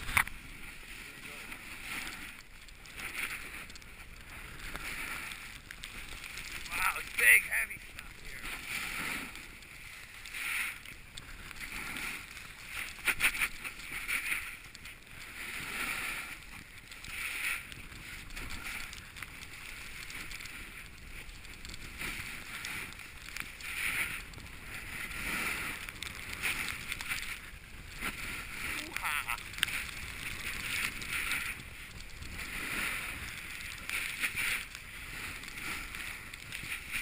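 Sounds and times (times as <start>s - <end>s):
skis carving through slushy snow: 0.0s - 37.0s.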